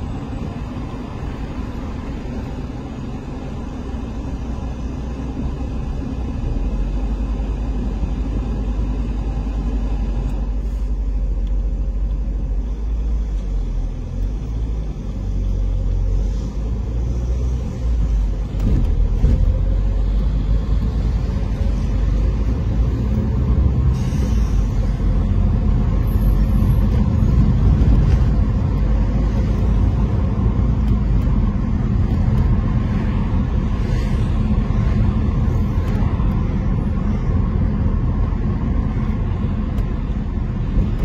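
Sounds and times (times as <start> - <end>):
car engine rumble: 0.0 - 41.0
tyre road noise: 0.0 - 41.0.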